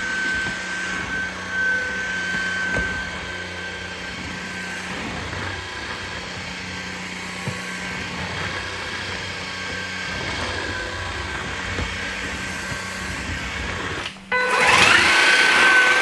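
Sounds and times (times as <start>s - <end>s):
stick vacuum running: 0.0s - 16.0s.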